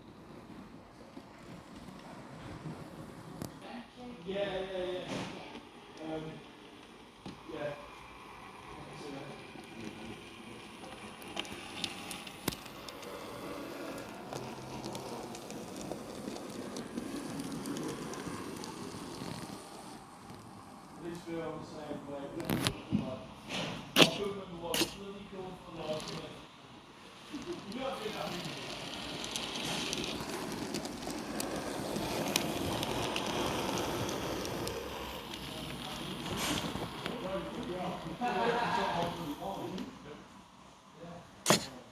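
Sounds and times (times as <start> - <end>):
model train rattling rumble: 4.3 - 22.7, 23.8 - 40.0.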